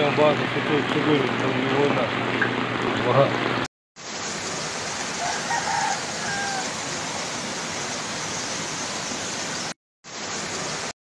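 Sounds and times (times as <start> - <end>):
floodwater rushing: 0.0 - 10.9.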